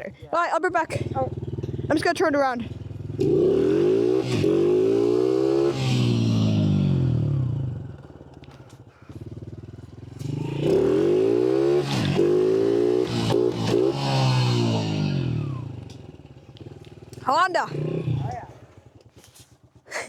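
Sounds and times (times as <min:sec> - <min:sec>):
dirt bike engine revving: 0:00.7 - 0:20.0.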